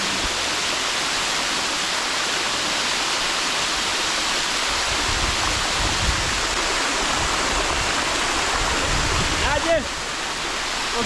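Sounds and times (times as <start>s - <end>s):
river and waterfall rushing: 0.0s - 11.0s.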